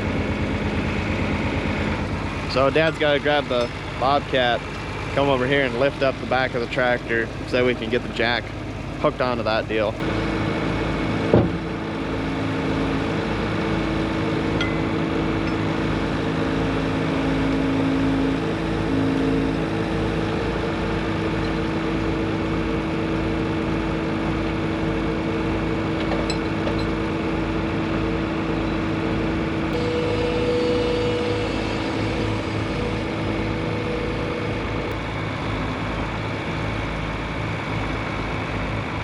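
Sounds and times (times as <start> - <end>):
farm machinery engine running: 0.0 - 39.0.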